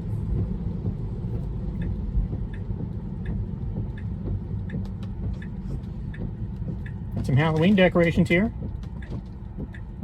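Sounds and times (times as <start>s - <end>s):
car cabin road noise: 0.0s - 10.0s
turn signal ticking: 0.0s - 10.0s.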